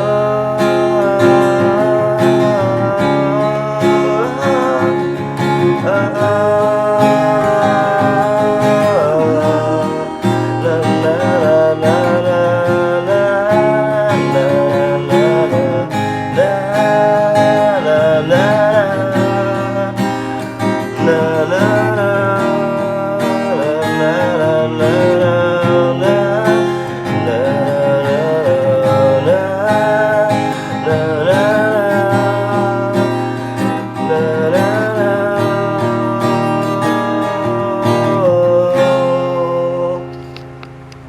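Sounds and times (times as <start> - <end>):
strummed acoustic guitar: 0.0 - 41.0
wordless vocal melody: 0.0 - 41.0.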